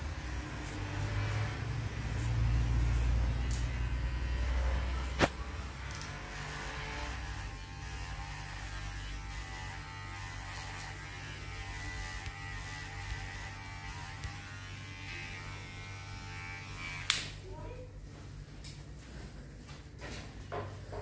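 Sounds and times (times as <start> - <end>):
electric hair clipper running: 0.0 - 17.4.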